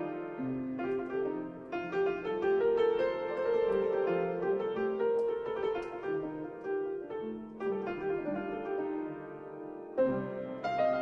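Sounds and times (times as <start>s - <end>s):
slow piano-like keyboard music: 0.0s - 11.0s.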